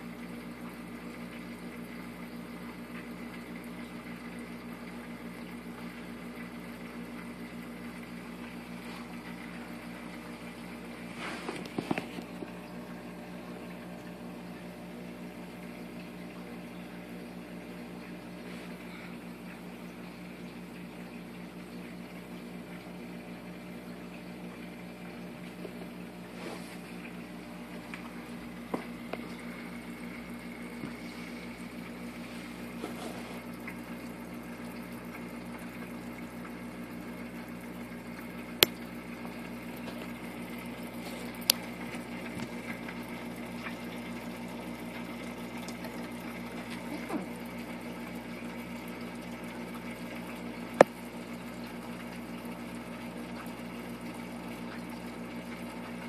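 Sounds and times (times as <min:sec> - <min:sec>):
aquarium pump humming: 0:00.0 - 0:56.0
faint water noise: 0:00.0 - 0:56.0.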